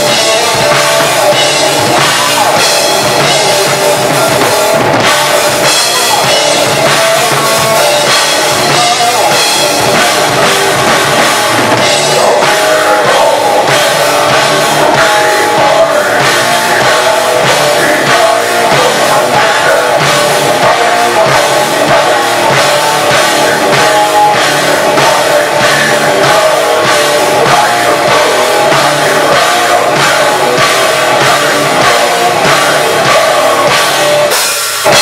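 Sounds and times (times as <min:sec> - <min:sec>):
bass guitar: 0:00.0 - 0:35.0
drum kit hits: 0:00.0 - 0:35.0
electric guitar: 0:00.0 - 0:35.0
person singing into microphone: 0:00.0 - 0:35.0.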